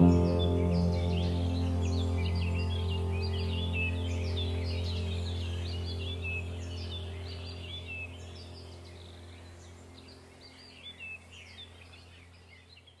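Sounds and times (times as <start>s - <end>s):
birds chirping and warbling: 0.0s - 13.0s
low steady hum: 0.0s - 13.0s.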